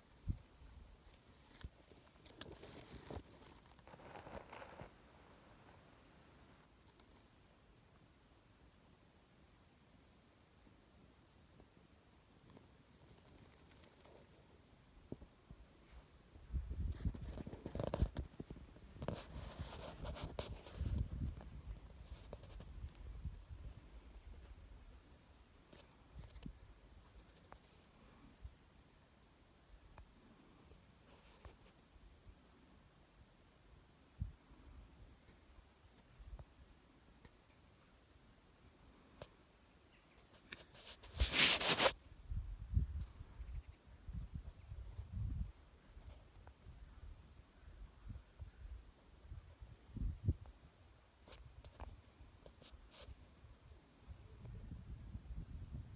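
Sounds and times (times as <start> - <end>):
soft steady hiss: 0.0 - 55.9
faint high insect chirps: 6.6 - 55.9.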